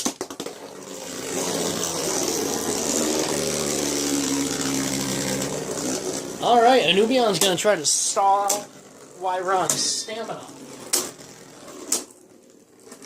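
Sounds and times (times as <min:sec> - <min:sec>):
spinning tops whirring and grinding: 0:00.0 - 0:13.0.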